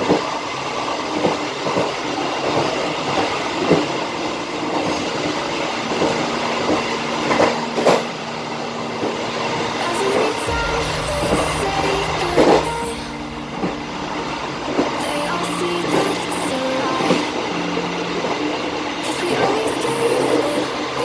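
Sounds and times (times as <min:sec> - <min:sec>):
train wheels rumbling on track: 0:00.0 - 0:19.6.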